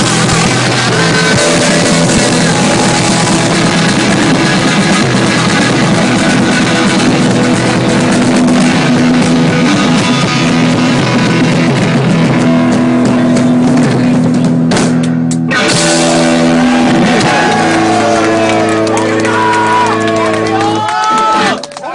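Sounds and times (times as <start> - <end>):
final guitar chord ringing: 0.0 - 13.8, 15.5 - 20.7
live rock band playing: 0.0 - 20.8.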